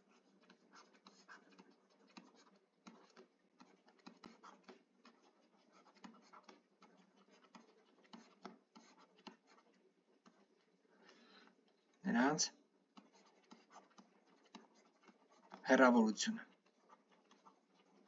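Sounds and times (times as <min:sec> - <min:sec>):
stylus scratching on a tablet: 0:00.0 - 0:18.0.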